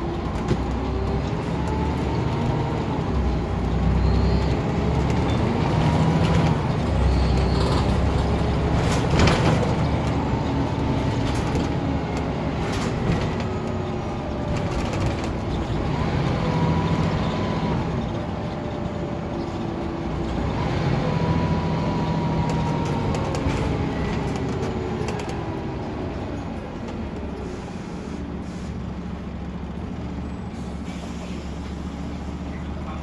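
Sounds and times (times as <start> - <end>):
bus body rattling: 0.0 - 20.6, 21.3 - 33.0
bus diesel engine accelerating: 0.0 - 33.0.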